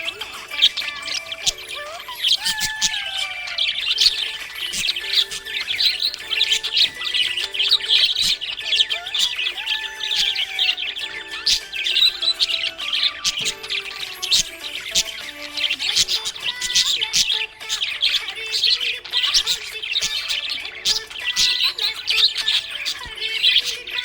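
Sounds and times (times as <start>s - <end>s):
background music with held notes: 0.0s - 24.0s
budgerigars chirping: 0.0s - 24.0s.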